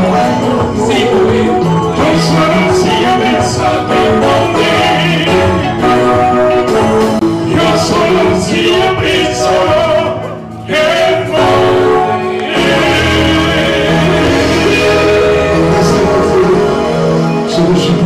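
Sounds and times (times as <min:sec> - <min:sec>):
rumba dance music with singing: 0:00.0 - 0:18.0.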